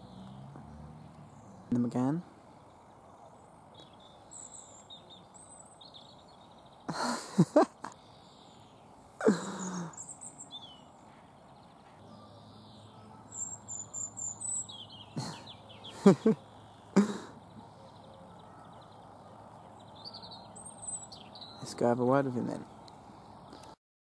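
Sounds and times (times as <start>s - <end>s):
small birds chirping: 0.0s - 23.8s.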